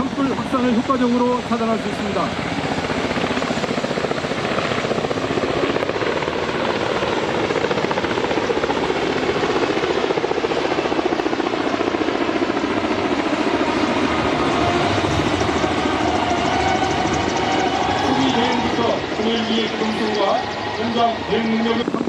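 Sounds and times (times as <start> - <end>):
helicopter rotor chopping: 0.0 - 22.0.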